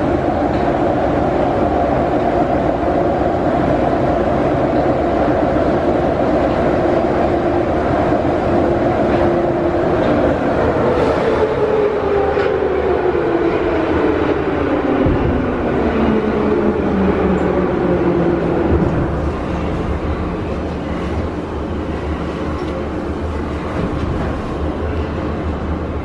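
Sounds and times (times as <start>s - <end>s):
metro train interior rumble: 0.0s - 26.0s.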